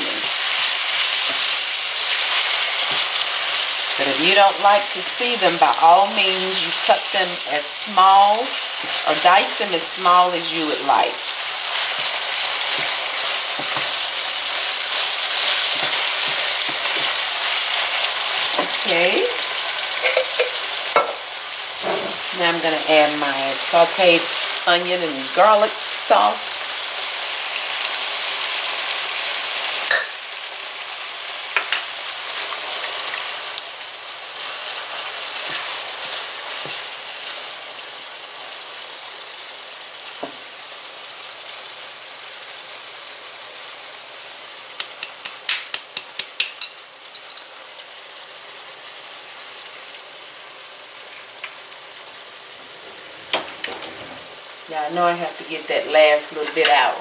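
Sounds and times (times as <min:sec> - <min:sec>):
meat sizzling in a skillet: 0:00.0 - 0:57.0.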